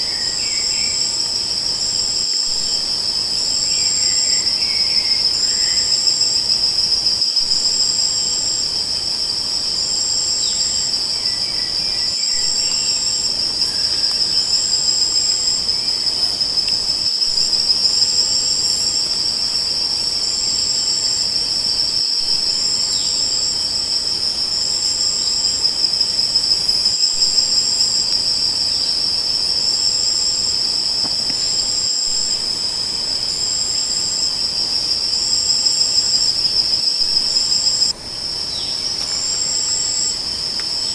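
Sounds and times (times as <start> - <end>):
higher-pitched insect calling: 0.0 - 40.9
insect steady high trill: 0.0 - 40.9.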